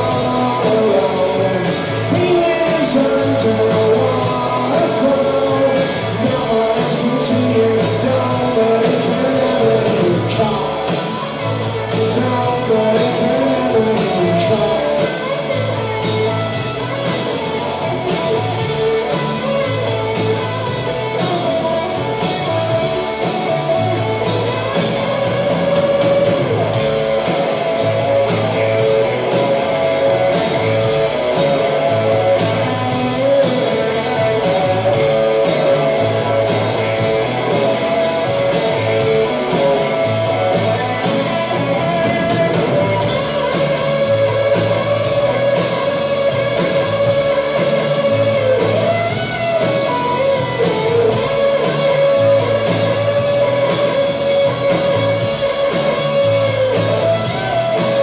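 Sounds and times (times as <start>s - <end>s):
drum kit beat: 0.0s - 58.0s.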